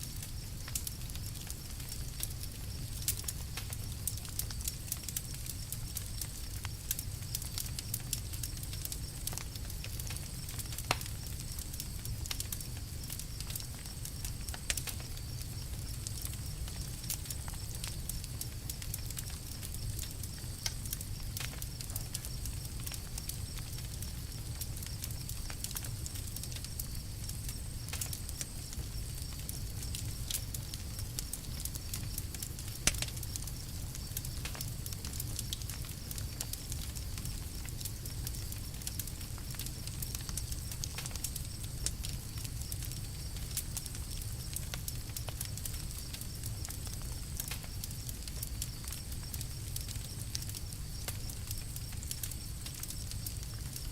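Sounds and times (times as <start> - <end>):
fire crackles and pops: 0.0 - 53.9
low rumble of flames: 0.0 - 53.9.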